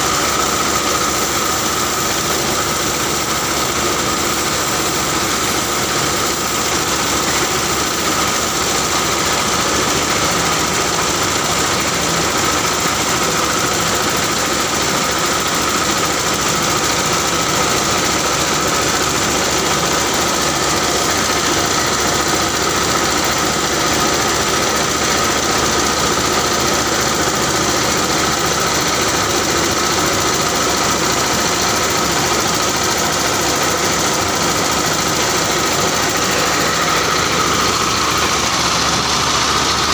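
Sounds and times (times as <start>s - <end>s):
grinding mill running: 0.0s - 39.9s
steady mechanical whine: 0.0s - 39.9s.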